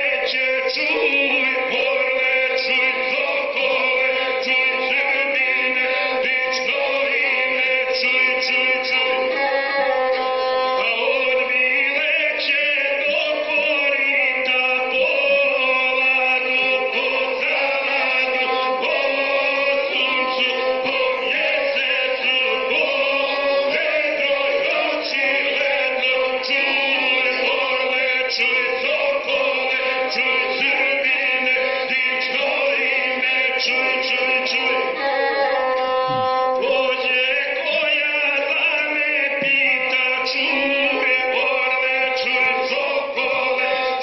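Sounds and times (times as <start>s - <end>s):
folk singing through tv speaker: 0.0s - 44.0s.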